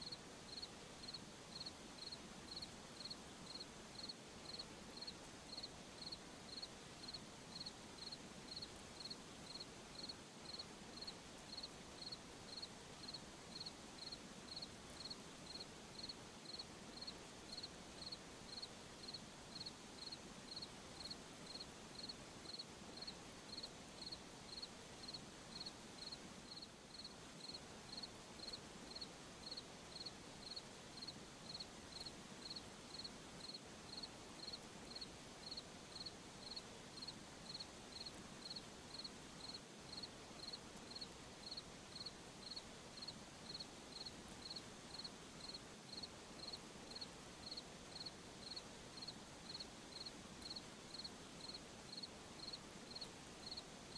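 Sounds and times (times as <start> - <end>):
soft background hiss: 0.0 - 53.9
crickets chirping: 0.5 - 53.6.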